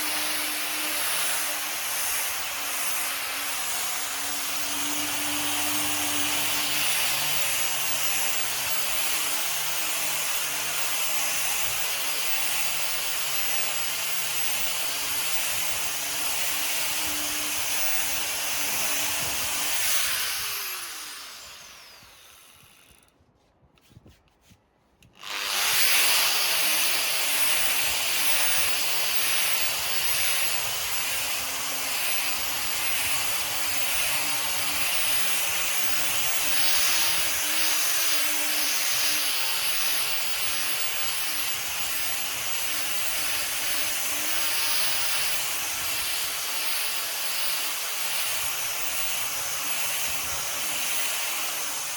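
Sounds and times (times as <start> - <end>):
orbital sander on wood: 0.0 - 23.1, 25.2 - 51.9.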